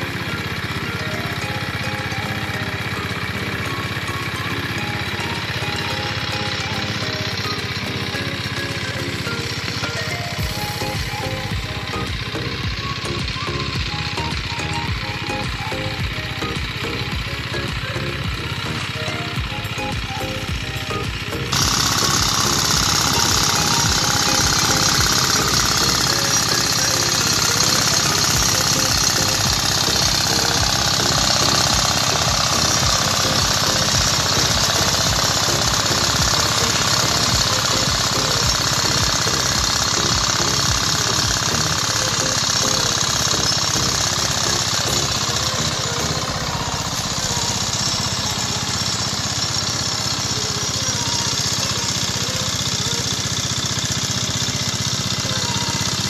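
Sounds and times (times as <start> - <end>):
small tractor engine knocking: 0.0 - 56.0.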